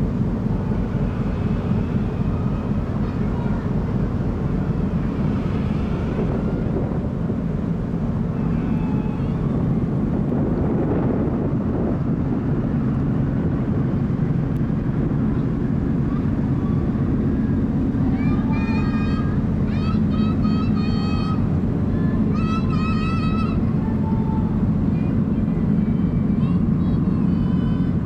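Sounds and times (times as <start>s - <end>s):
ship engines droning: 0.0s - 28.0s.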